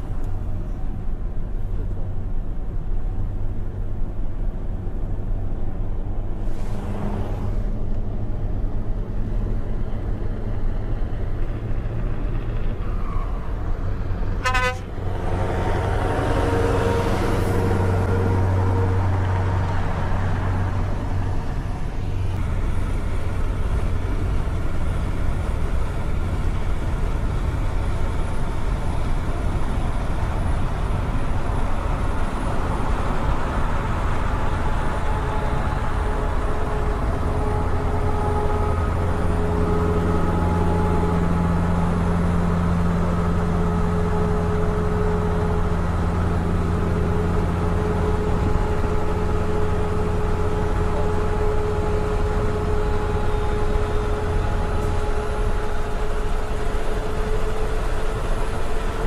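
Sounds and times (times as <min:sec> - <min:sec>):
road and tyre noise: 0:00.0 - 0:59.0
truck engine droning: 0:00.0 - 0:59.0.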